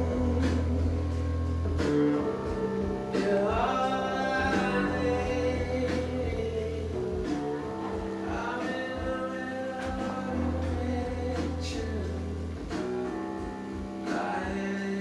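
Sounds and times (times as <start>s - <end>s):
song with singing: 0.0s - 15.0s.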